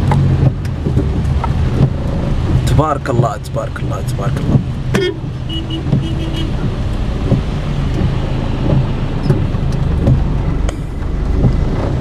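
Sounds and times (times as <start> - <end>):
car engine hum: 0.0 - 12.0
rain: 0.0 - 12.0
tyres hissing on wet road: 0.1 - 12.0.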